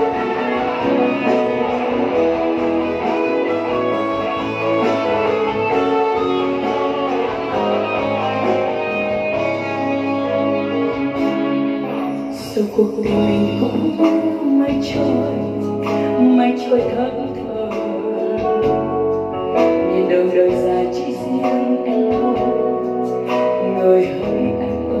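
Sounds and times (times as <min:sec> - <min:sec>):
instrumental backing track with guitar: 0:00.0 - 0:25.0.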